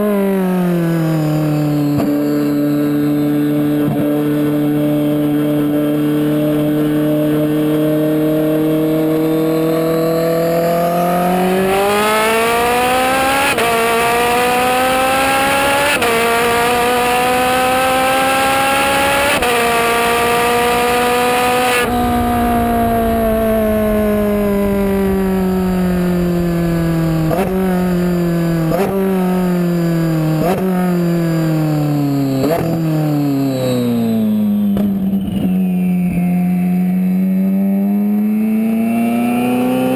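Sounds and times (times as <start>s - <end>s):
engine rev blips on downshifts: 0.0s - 24.9s, 25.7s - 39.9s
car engine accelerating and shifting: 0.0s - 39.9s.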